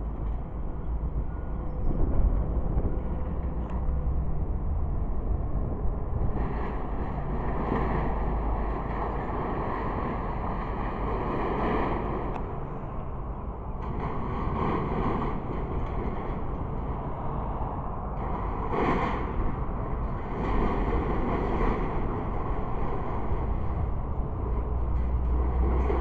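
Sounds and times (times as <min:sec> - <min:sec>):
low rumble of distant engines: 0:00.0 - 0:26.0.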